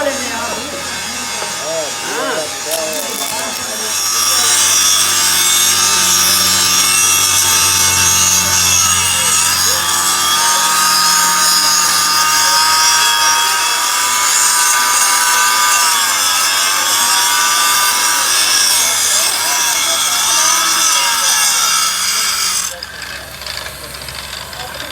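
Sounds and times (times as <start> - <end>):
power tool cutting: 0.0 - 24.9.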